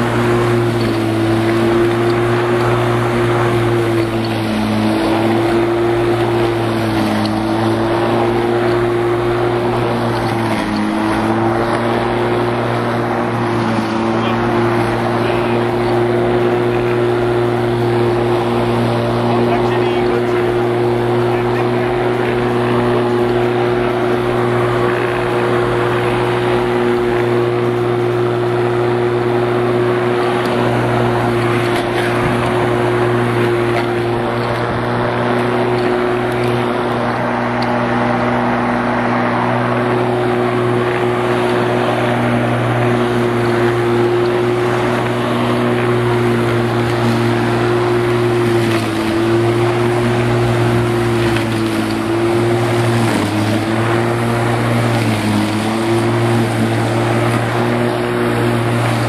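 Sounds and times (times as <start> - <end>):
electric lawn mower running: 0.0 - 59.0.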